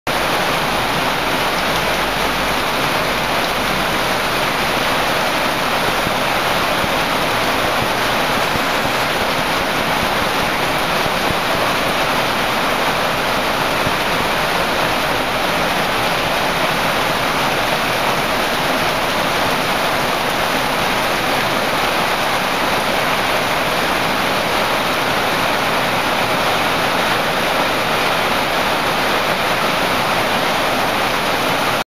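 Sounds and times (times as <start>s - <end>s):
heavy rain pouring: 0.1s - 31.8s.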